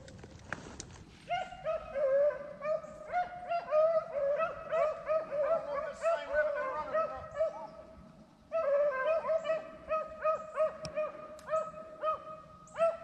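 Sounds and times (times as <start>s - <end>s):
pack of dogs baying: 1.3s - 7.8s, 8.5s - 13.0s.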